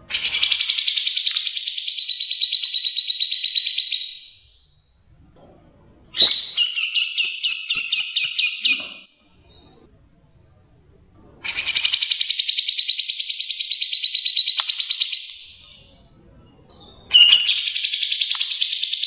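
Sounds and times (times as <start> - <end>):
bird singing trills: 0.1 - 4.9, 6.2 - 9.8, 11.4 - 19.0.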